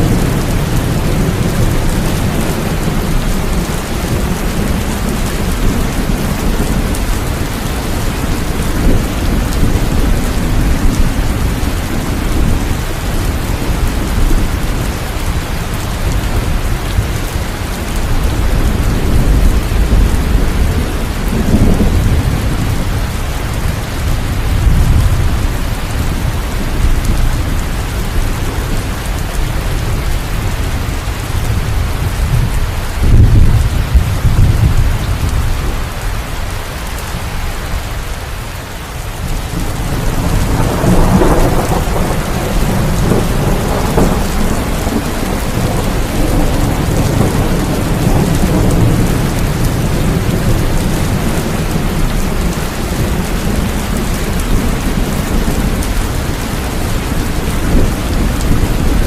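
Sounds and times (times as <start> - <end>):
heavy rain falling: 0.0 - 59.0
low thunder rumbling: 0.0 - 59.0.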